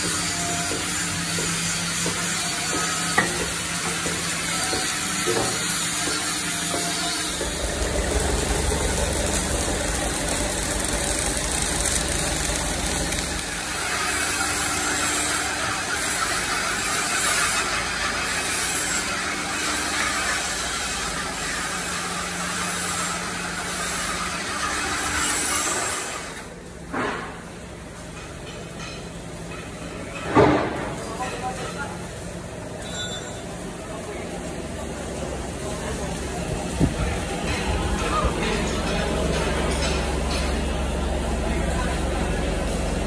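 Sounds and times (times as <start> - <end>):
workshop machinery running: 0.0 - 43.0.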